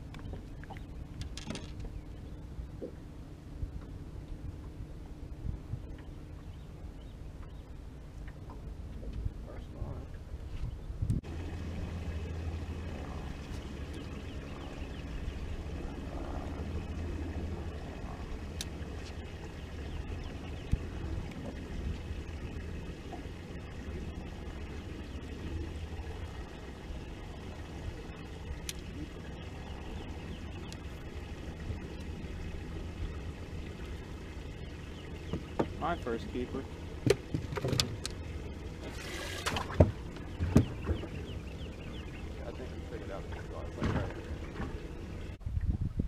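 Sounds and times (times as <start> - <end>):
boat engine hum: 0.0 - 45.8
wind rumble: 0.0 - 46.0.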